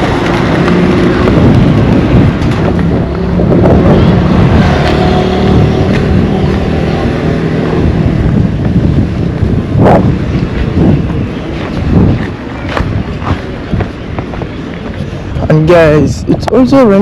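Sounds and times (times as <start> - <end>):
engine humming: 0.0 - 15.4
wind buffeting microphone: 0.0 - 17.0.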